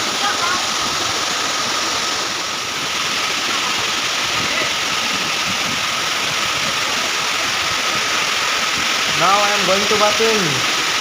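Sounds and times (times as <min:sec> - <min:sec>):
waterfall crashing: 0:00.0 - 0:11.0.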